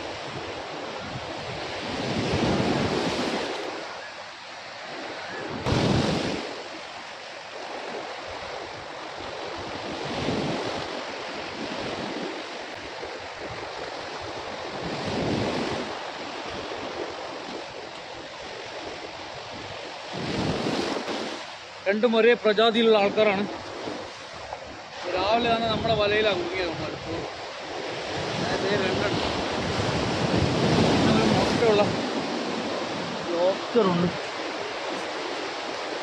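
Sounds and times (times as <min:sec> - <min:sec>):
sea waves breaking: 0:00.0 - 0:36.0
wind buffeting microphone: 0:00.0 - 0:36.0.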